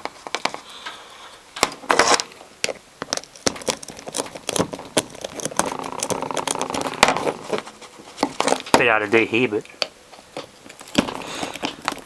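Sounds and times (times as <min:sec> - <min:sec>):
wires rubbing rustle: 0:00.0 - 0:12.0
crackling clicks of bent wires: 0:01.6 - 0:12.0.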